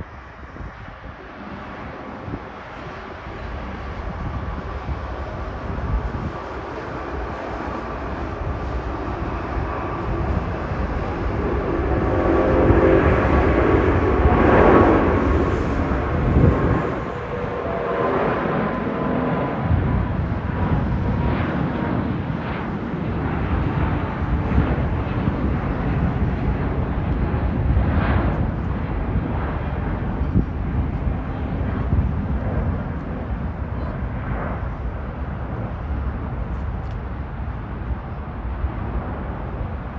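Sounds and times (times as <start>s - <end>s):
jet engine taking off: 0.0s - 39.9s.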